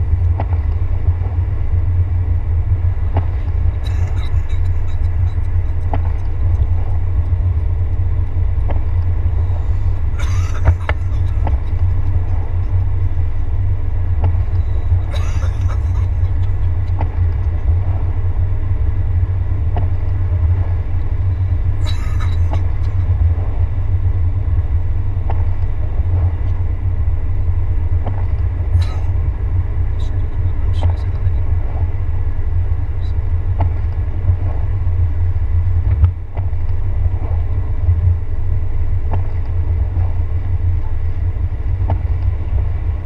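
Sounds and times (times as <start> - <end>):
car driving on wet road: 0.0 - 38.2.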